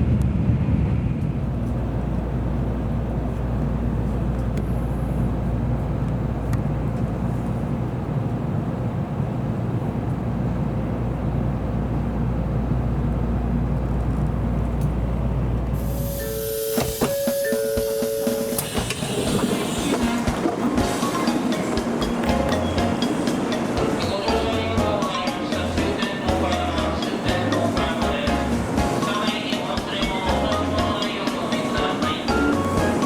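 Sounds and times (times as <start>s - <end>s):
train rumbling: 0.0s - 33.0s.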